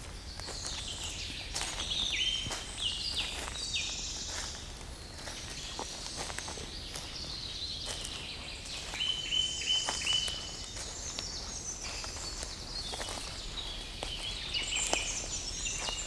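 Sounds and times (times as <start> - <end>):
footsteps on leaf litter: 0.0 - 16.0
songbirds singing: 0.0 - 16.0.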